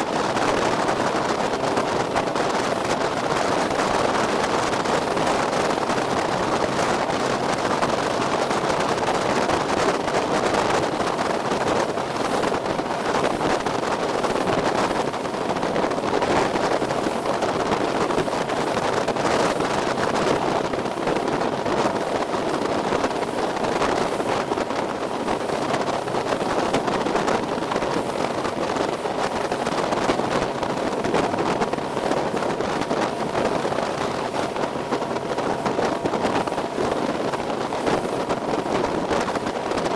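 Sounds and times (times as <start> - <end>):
motorboat engine running: 0.0 - 39.9
water rushing past hull: 0.0 - 39.9
wind on microphone: 0.0 - 39.9.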